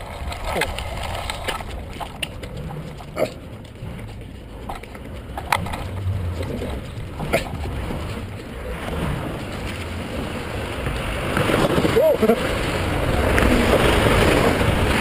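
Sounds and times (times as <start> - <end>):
bicycle knocking and rattling: 0.0 - 15.0
low handling rumble: 0.0 - 15.0.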